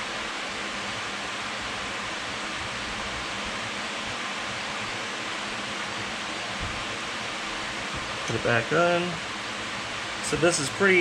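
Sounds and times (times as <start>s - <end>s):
fan air blowing on microphone: 0.0s - 11.0s.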